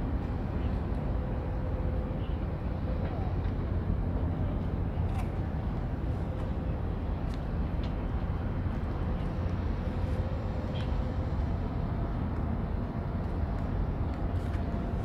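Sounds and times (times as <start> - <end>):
low rumble of harbour ambience: 0.0 - 15.0.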